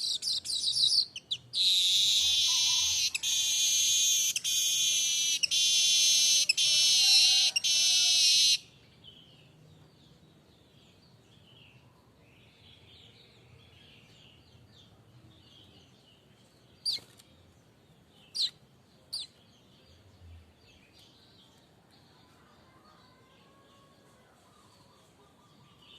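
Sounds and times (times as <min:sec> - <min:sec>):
faint bird chirping: 0:00.0 - 0:25.9.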